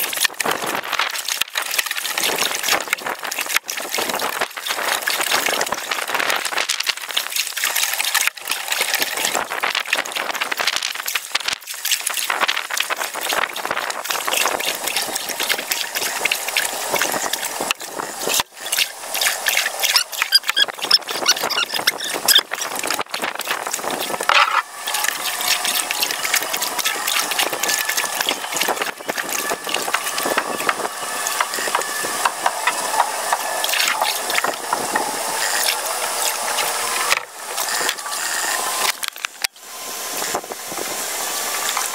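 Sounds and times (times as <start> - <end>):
water lapping along hull: 0.0 - 41.9.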